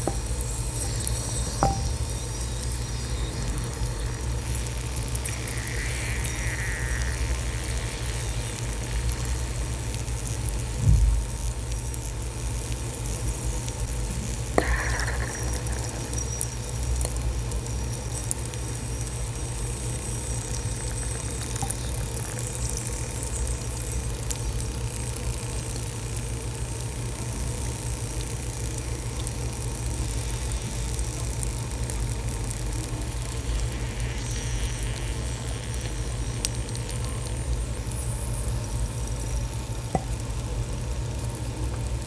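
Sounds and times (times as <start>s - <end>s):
mineral fizzing and crackling in water: 0.0s - 42.0s
steady low hum: 0.0s - 42.0s.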